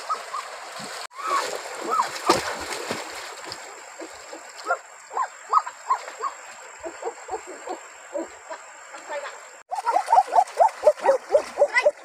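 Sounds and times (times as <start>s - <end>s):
faint river water: 0.0s - 12.0s.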